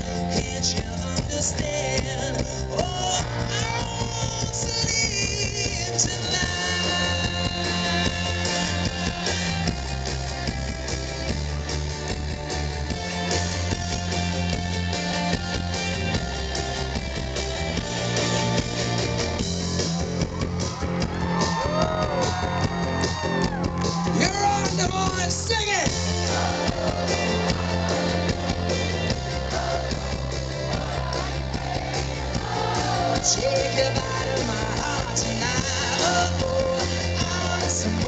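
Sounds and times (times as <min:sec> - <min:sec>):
bass line: 0:00.0 - 0:38.0
live rock band playing: 0:00.0 - 0:38.0.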